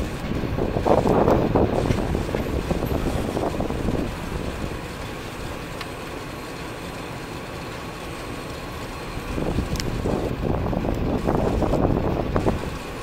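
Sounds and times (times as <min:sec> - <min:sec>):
train cars rumbling over rails: 0:00.0 - 0:13.0.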